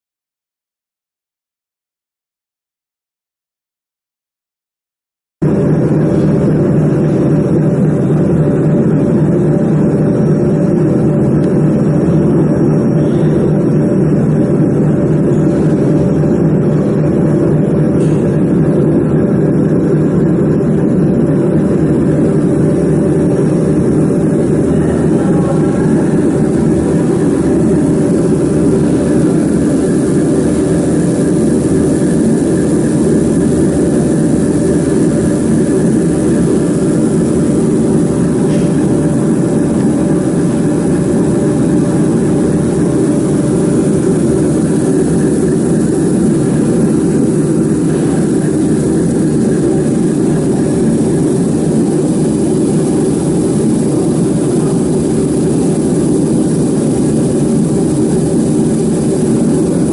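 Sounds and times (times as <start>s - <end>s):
laser marking machine humming: 5.4s - 59.9s.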